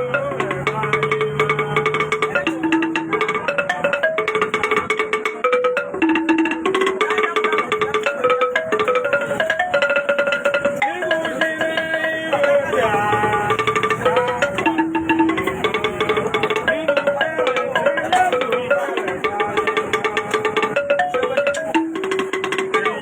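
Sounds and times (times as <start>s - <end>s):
fast dense percussion: 0.0s - 23.0s
melody of held notes: 0.0s - 23.0s.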